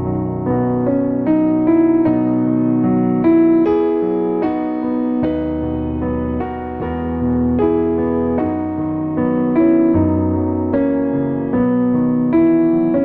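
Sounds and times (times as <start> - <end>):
piano playing gentle melody: 0.0 - 13.0.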